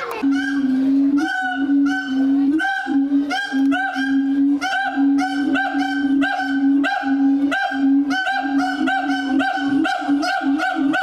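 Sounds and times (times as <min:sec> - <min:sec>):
ape calling with honking notes: 0:00.0 - 0:11.0
higher wavering call notes: 0:00.0 - 0:11.0.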